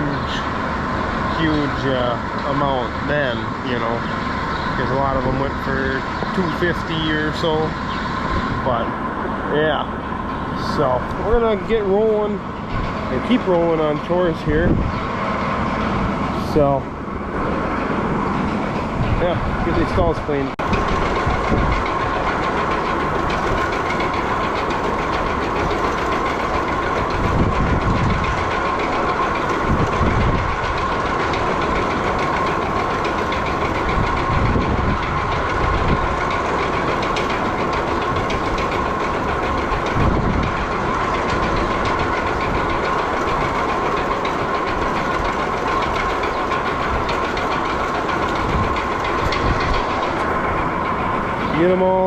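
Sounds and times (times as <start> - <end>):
constant whine: 0.0 - 52.0
machinery droning: 0.0 - 52.0.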